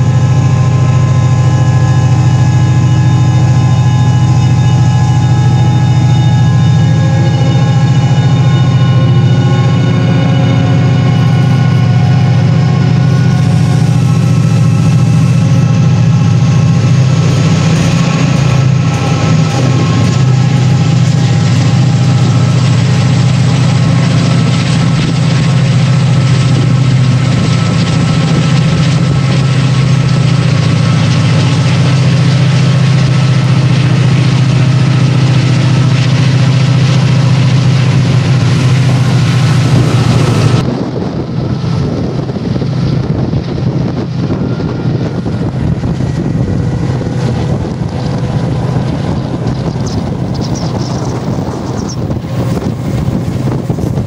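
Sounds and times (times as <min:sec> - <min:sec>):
diesel locomotive engine droning: 0:00.0 - 0:54.0
rushing noise: 0:00.0 - 0:54.0.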